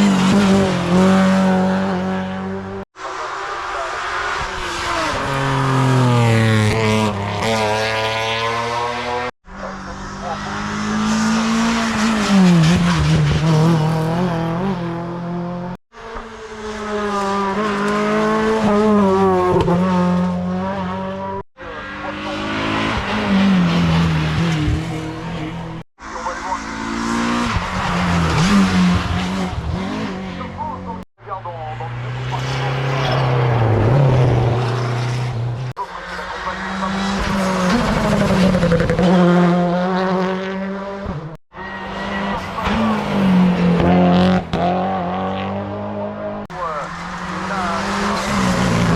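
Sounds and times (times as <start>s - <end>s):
racing car engines at full throttle: 0.0s - 48.9s.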